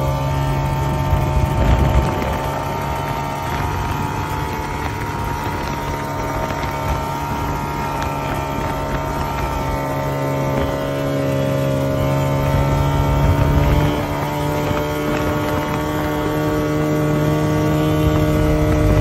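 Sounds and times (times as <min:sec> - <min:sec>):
snowmobile engine running: 0:00.0 - 0:19.0
wind on microphone: 0:00.0 - 0:19.0.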